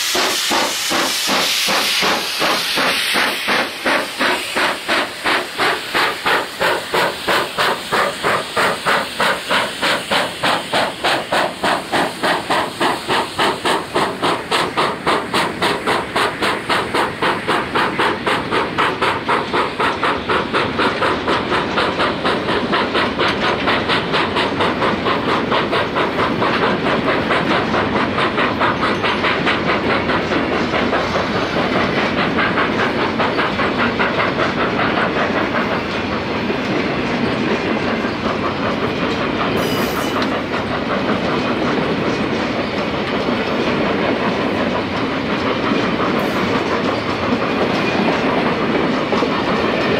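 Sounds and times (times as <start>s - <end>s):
steam hiss: 0.0s - 49.9s
steam locomotive exhaust chuffing: 0.0s - 49.9s.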